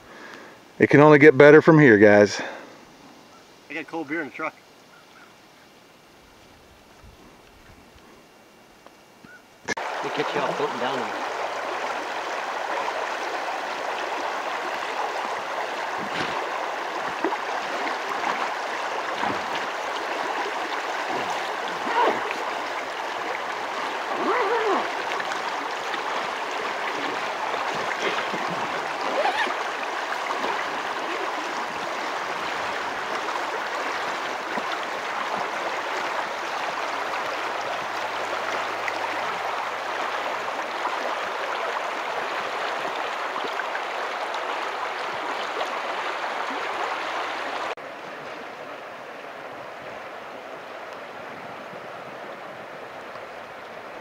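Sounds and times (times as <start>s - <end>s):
river water rushing: 9.7s - 54.0s.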